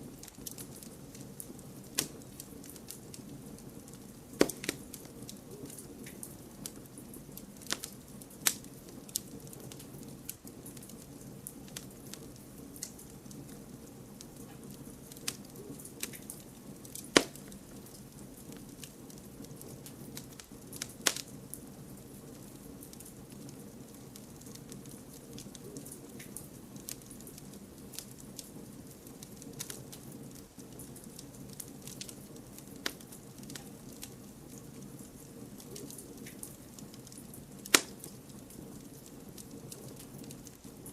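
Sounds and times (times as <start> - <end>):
campfire crackling and popping: 0.0 - 40.9
soft steady fire hiss: 0.0 - 40.9.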